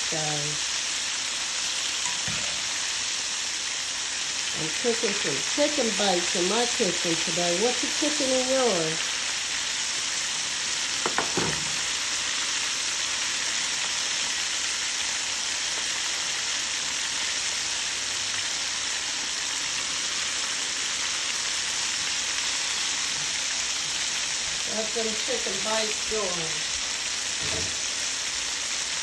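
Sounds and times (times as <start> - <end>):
chicken frying in grease: 0.0 - 29.0.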